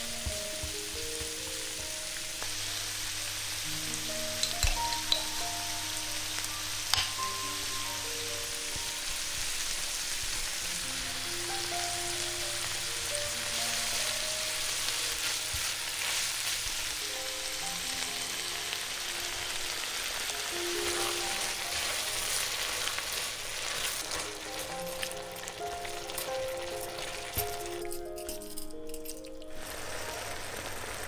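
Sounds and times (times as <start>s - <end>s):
soft melodic background music: 0.0s - 31.0s
steady crackling hiss: 0.0s - 31.0s.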